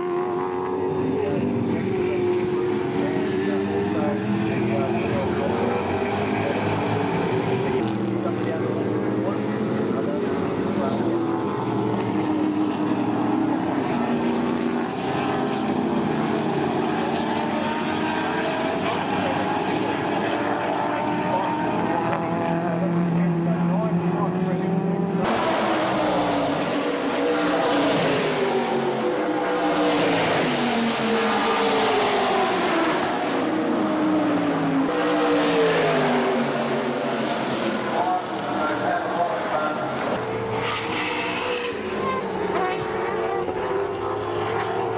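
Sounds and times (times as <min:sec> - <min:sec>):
racing car engines: 0:00.0 - 0:44.9.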